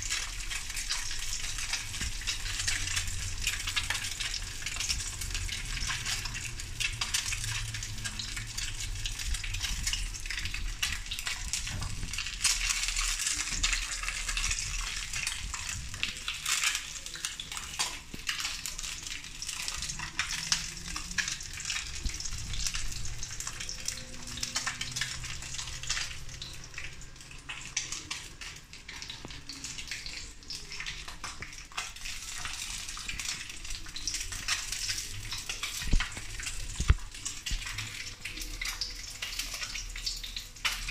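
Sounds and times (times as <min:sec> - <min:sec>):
hot oil sizzling and crackling: 0:00.0 - 0:40.9.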